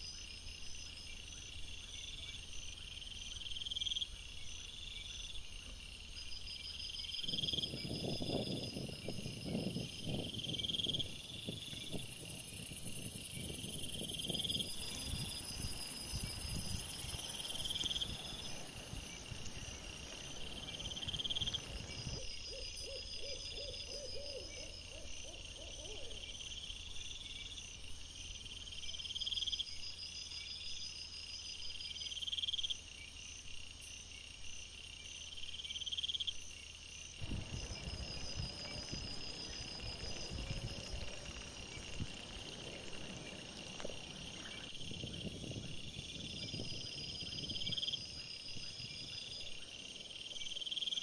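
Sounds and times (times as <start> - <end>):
night insects chirping: 0.0 - 51.0.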